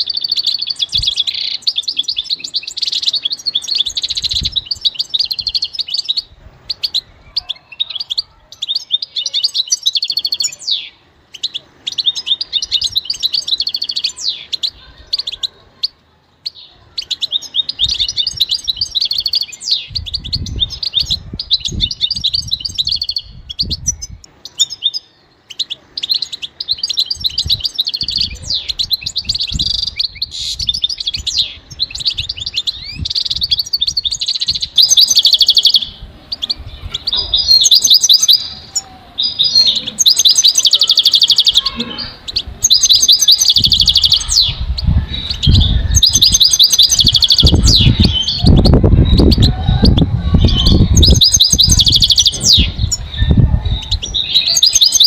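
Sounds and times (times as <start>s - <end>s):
goldfinch twittering song: 0.0s - 55.0s.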